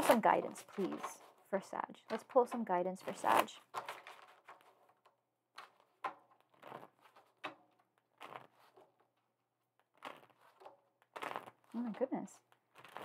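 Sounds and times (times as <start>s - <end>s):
cards flicking and rustling: 0.0s - 1.4s, 2.1s - 9.2s, 9.8s - 11.8s, 12.4s - 13.0s.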